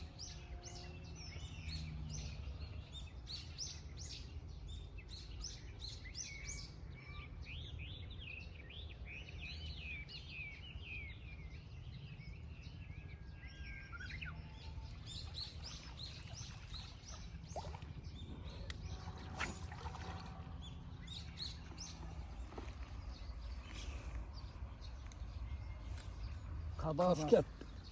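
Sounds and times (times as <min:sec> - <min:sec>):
small birds chirping and trilling: 0:00.0 - 0:27.9.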